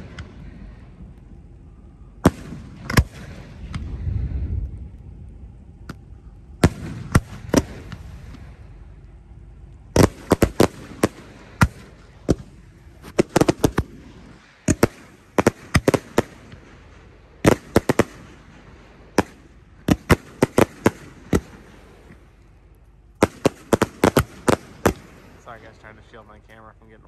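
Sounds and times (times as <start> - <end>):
fireworks bursting overhead: 0.0 - 27.0.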